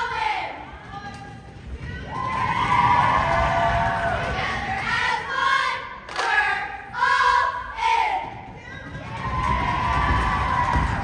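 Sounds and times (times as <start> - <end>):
cheerleaders chanting in unison: 0.0 - 1.2, 1.9 - 11.0.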